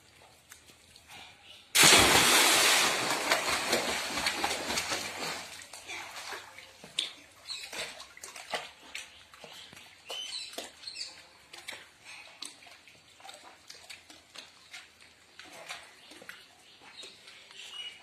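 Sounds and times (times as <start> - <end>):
water lapping in a rock pool: 0.0 - 18.0.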